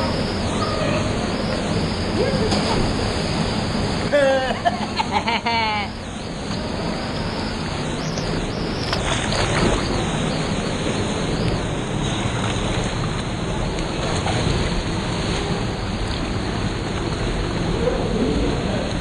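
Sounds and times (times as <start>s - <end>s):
water rushing: 0.0s - 5.2s, 5.8s - 19.0s.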